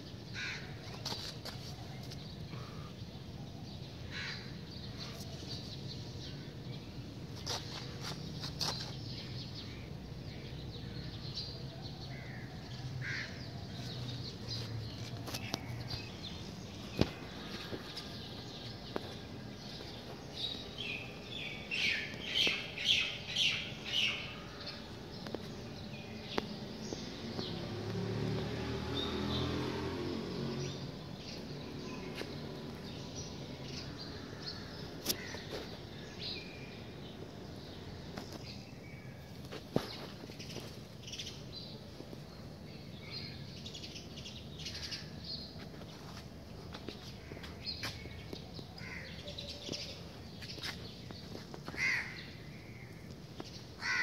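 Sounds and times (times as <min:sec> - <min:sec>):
birds calling: 0:00.0 - 0:54.0.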